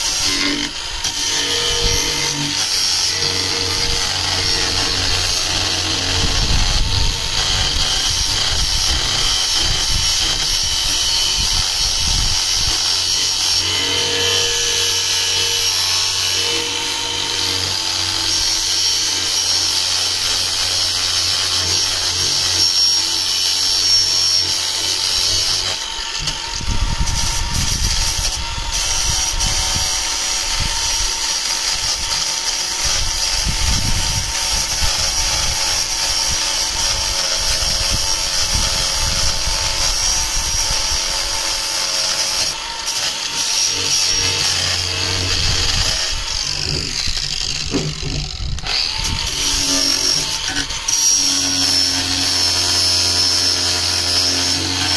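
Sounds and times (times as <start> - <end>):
angle grinder cutting: 0.0 - 54.9.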